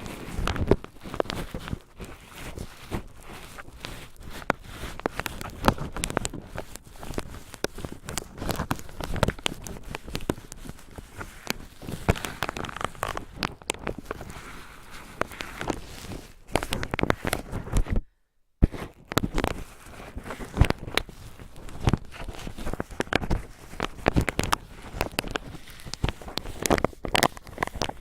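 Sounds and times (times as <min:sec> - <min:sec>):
cotton swabs crinkling: 0:00.0 - 0:18.0, 0:18.6 - 0:28.0.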